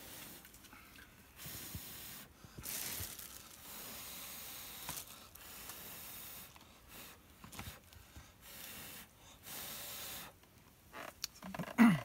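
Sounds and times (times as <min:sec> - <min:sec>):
person blowing puffs of air: 0:00.0 - 0:10.4.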